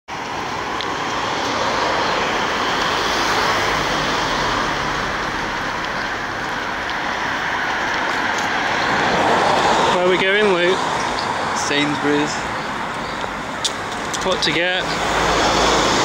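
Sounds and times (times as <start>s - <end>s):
road traffic hiss: 0.1s - 16.0s.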